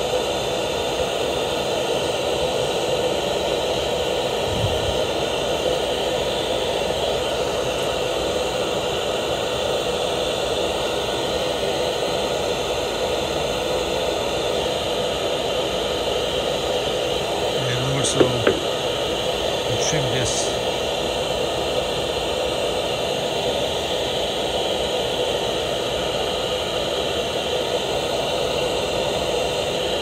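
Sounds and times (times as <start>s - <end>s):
mechanical whir and hiss: 0.0s - 30.0s.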